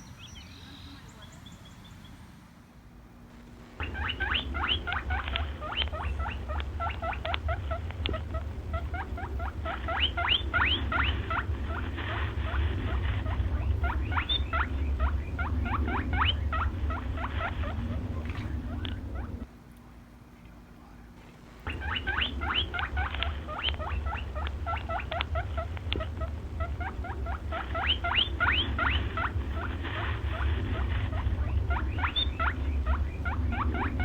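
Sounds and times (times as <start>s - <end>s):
low rumble: 3.3s - 19.5s, 21.2s - 34.0s
small animal squeaking: 3.4s - 19.5s, 21.2s - 34.0s.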